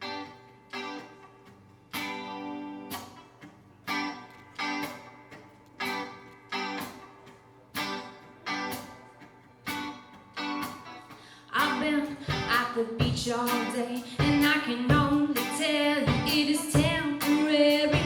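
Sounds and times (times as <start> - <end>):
guitar chords strummed: 0.0 - 18.0.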